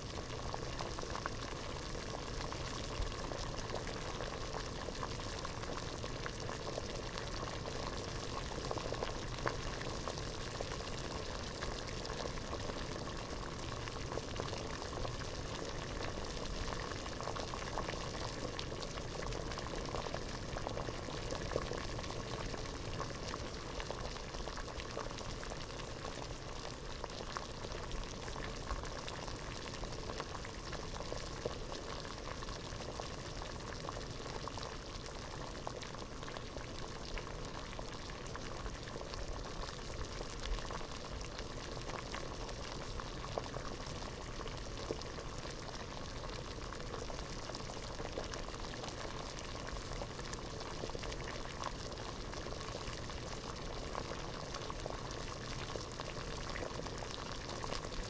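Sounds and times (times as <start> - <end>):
water boiling in a pot: 0.0 - 58.0.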